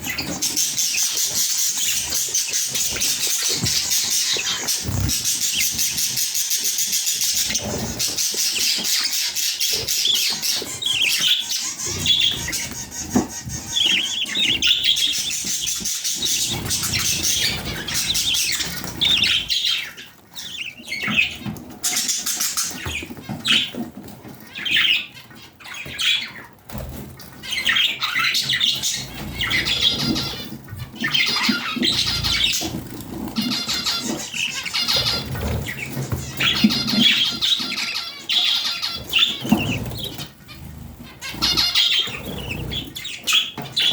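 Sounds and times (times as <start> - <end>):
budgerigars chirping: 0.0 - 43.9.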